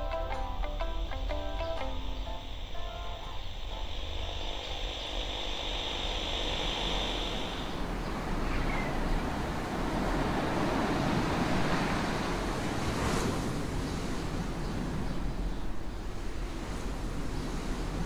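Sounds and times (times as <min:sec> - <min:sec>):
sea surf washing in: 0:00.0 - 0:18.0
wind: 0:00.0 - 0:18.0.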